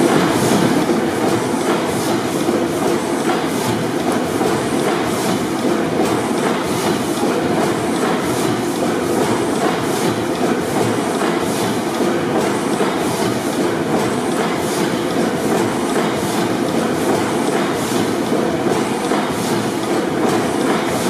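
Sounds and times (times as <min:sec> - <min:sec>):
gas engine mechanical clatter: 0:00.0 - 0:21.0
regular engine clicking: 0:00.0 - 0:21.0.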